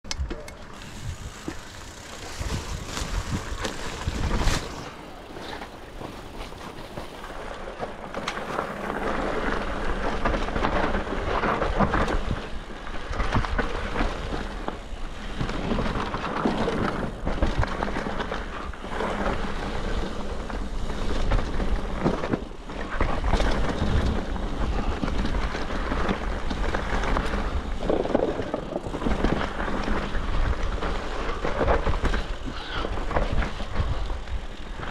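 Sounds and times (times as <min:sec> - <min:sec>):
tyres on wooden plank bridge: 0:00.1 - 0:34.9
wind on microphone: 0:00.1 - 0:34.9
bike rattling over bumps: 0:00.2 - 0:34.9
bike tyres crunching over dirt: 0:00.6 - 0:34.9.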